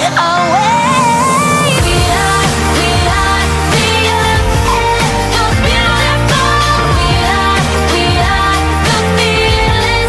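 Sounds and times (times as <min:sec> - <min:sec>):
pop music with bass: 0:00.0 - 0:10.0.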